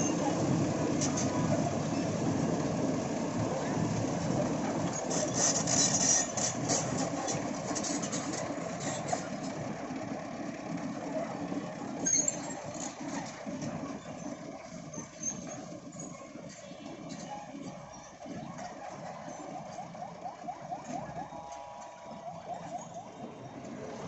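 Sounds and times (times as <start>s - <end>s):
excavator engine rumbling: 0.0s - 24.0s.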